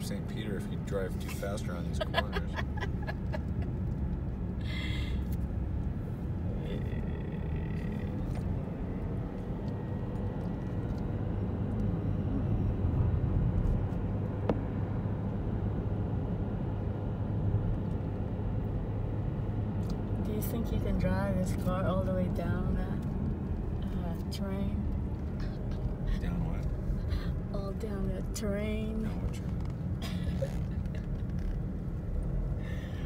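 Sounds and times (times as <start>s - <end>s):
car tyres and engine rumble: 0.0s - 33.0s.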